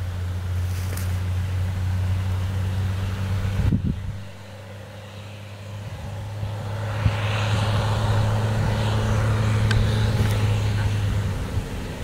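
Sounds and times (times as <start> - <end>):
rush of tyres and trailer: 0.0 - 12.0
tractor engine humming: 0.0 - 12.0.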